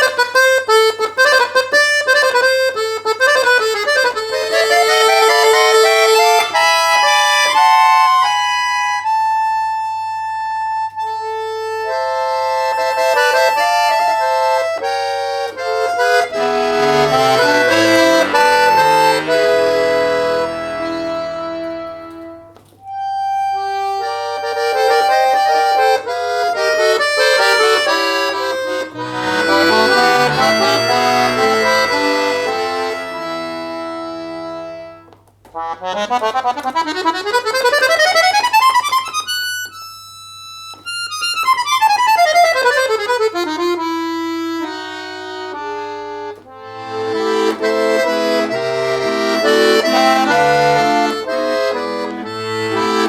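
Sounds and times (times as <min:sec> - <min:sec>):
solo accordion playing: 0:00.0 - 0:53.0.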